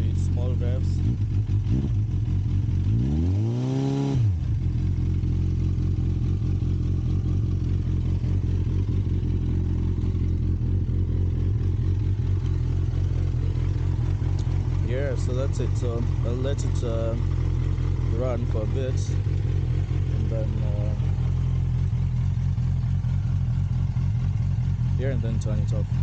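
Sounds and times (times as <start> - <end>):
motorcycle engine idling: 0.0 - 3.3, 4.0 - 26.0.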